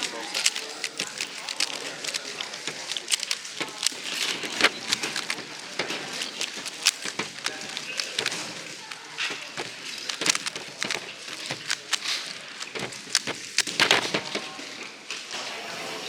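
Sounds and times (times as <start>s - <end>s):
puzzle cube plastic clicks: 0.0s - 14.6s.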